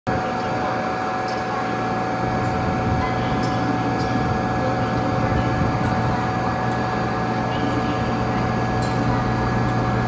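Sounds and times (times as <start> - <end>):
high whine: 0.1 - 10.0
train electrical hum and fans: 0.1 - 10.0.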